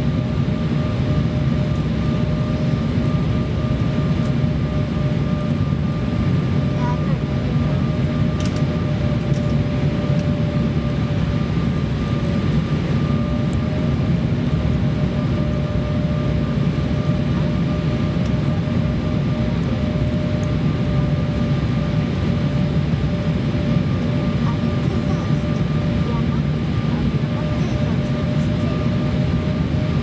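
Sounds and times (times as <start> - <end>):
jet engine and airflow rush: 0.0 - 30.0.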